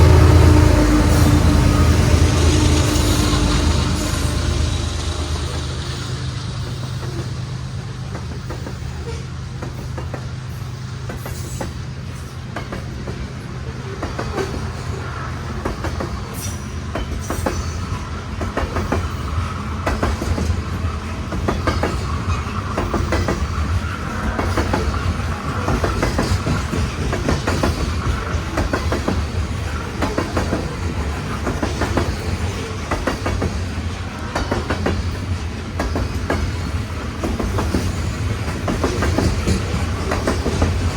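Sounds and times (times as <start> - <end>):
steel wheels clacking over rail joints: 0.0 - 40.9
train cars rolling past rumbling: 0.0 - 40.9.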